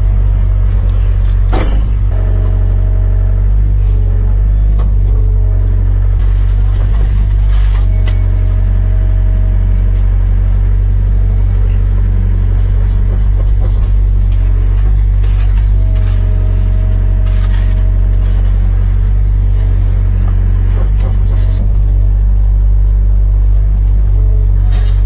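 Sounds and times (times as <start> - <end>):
excavator diesel engine rumbling: 0.0 - 25.0
higher engine tone: 0.0 - 25.0.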